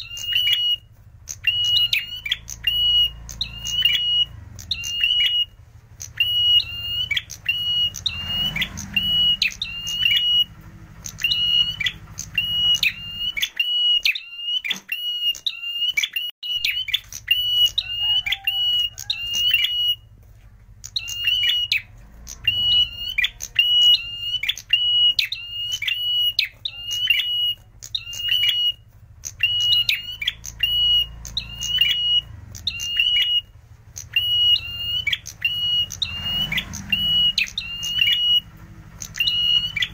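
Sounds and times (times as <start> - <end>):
bird calling high piercing notes: 0.0 - 39.9.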